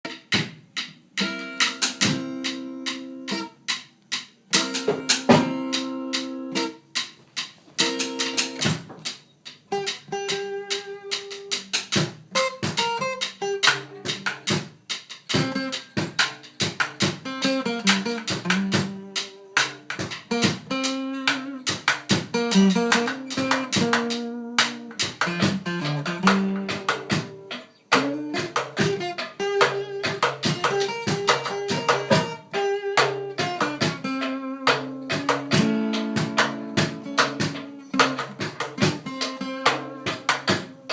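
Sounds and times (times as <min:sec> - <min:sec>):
plucked guitar-like instrument: 0:00.0 - 0:40.9.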